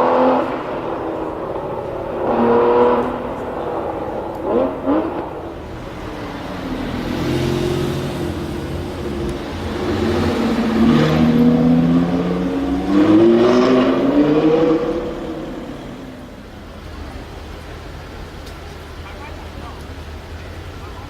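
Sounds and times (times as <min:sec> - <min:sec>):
sports car engine accelerating: 0:00.0 - 0:21.0.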